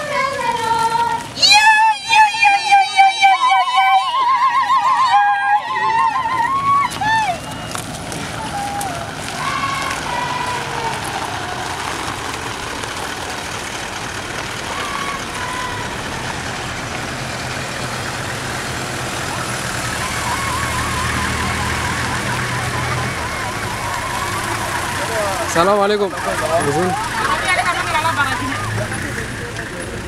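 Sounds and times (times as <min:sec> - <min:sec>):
vehicle engines humming: 0:00.0 - 0:30.0.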